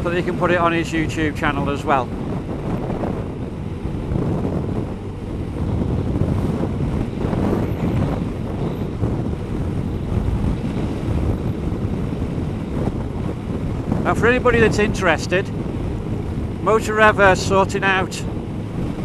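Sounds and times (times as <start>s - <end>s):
tyres on wet road: 0.0s - 19.0s
wind buffeting microphone: 0.0s - 19.0s.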